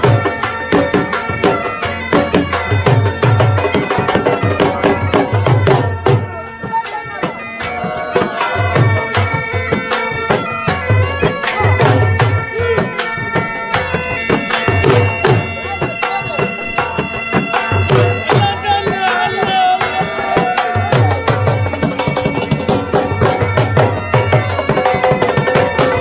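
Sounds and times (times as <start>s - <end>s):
reed wind instrument droning: 0.0s - 26.0s
steady drum beat: 0.0s - 26.0s.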